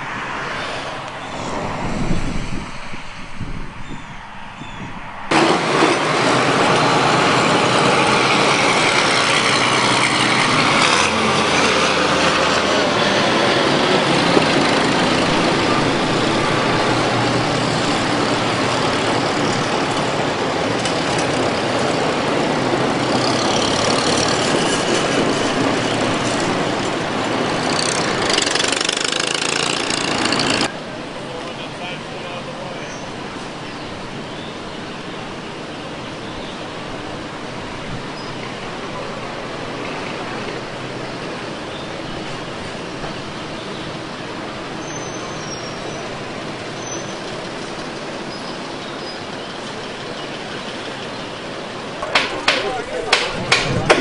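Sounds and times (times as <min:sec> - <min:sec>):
tractor engines running: 0:04.6 - 0:54.0.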